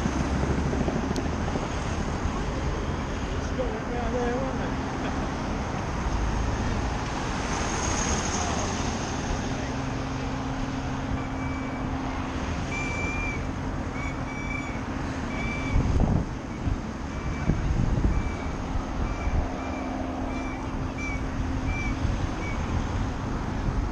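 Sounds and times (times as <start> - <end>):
road traffic engine hum: 0.0 - 23.9.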